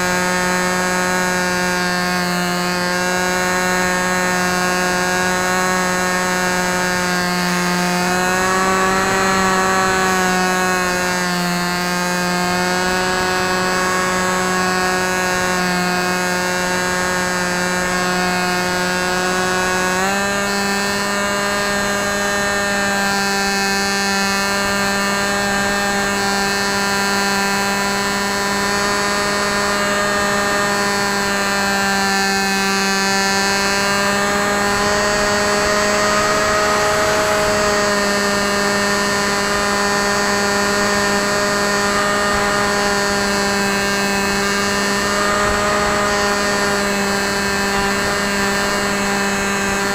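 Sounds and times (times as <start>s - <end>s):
electric motor propeller whine: 0.0s - 49.9s.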